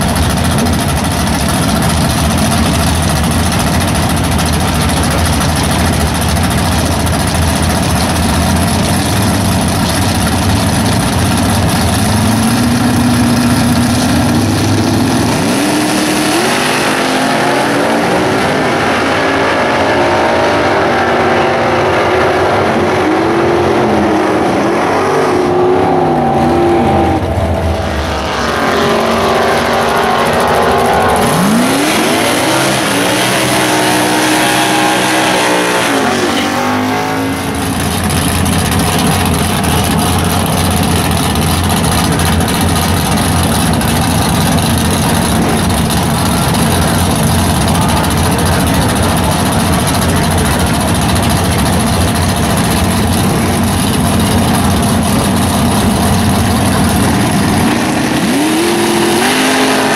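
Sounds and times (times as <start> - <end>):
car engine idling: 0.0 - 16.5, 25.5 - 59.9
drag car engine revving: 0.0 - 59.9.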